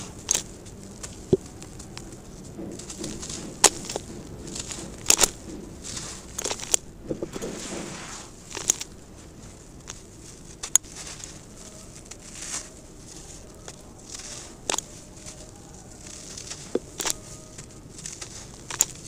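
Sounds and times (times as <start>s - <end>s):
gritty rustling of crumbling sand mix: 0.0s - 19.0s.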